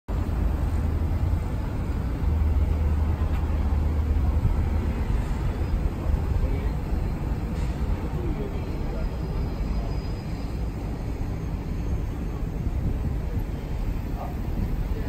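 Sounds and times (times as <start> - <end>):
city road traffic rumble: 0.1 - 15.0.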